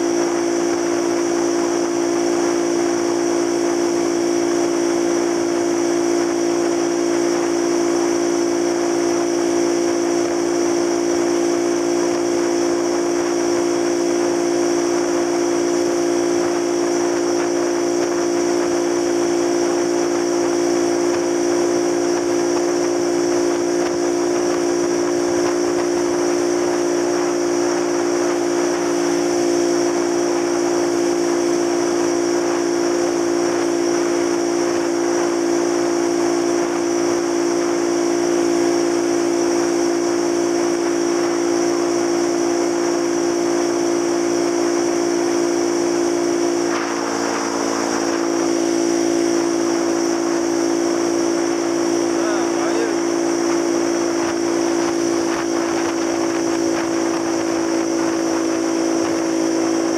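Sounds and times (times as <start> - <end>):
small motorcycle engine droning: 0.0 - 59.9.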